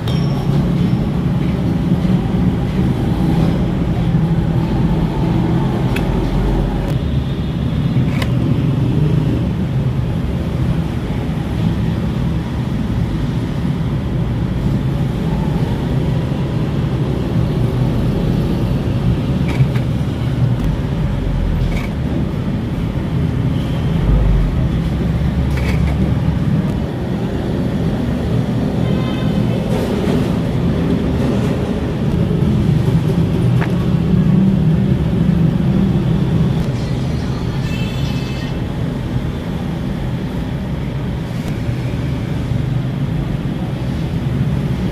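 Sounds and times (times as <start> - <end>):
low rumble of road traffic: 0.0 - 44.9.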